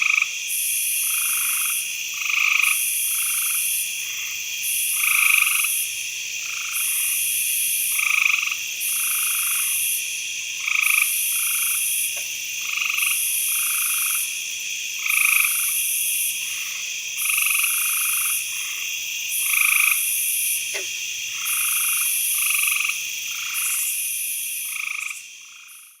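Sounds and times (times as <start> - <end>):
frogs croaking: 0.0 - 26.0
insect trill: 0.0 - 26.0.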